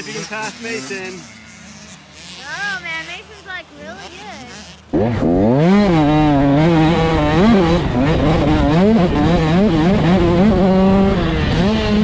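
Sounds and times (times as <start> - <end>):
dirt bike engines running hard: 0.0 - 12.0.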